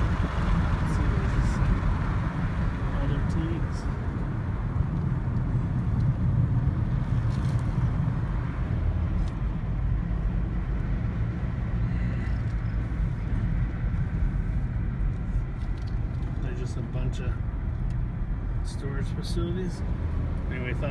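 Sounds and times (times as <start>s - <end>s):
low vehicle rumble: 0.0s - 20.9s.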